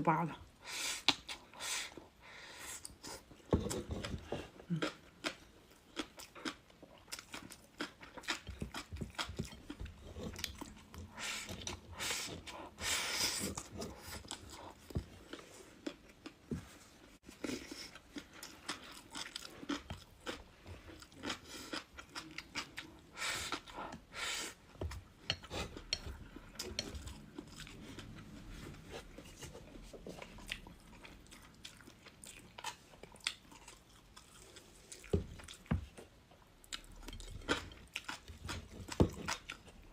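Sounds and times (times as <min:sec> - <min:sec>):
person chewing crisp food: 0:02.8 - 0:39.9.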